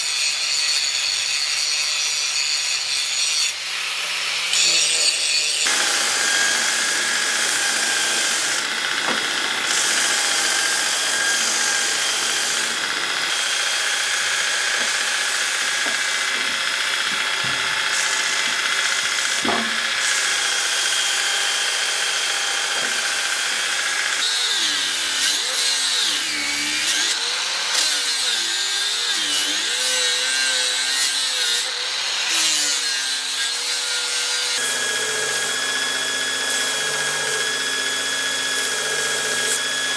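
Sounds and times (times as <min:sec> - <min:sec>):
power grinder grinding steel: 0:00.0 - 0:39.9.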